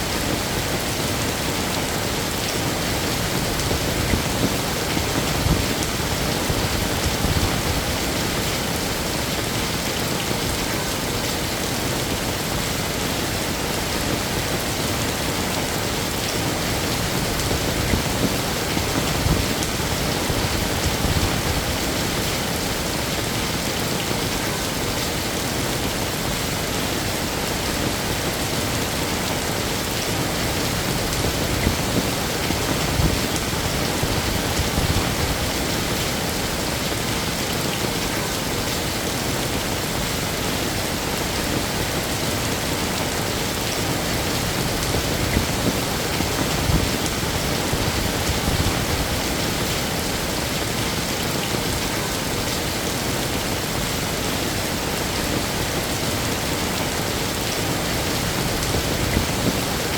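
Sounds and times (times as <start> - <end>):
heavy rain on hard surfaces: 0.0 - 59.9.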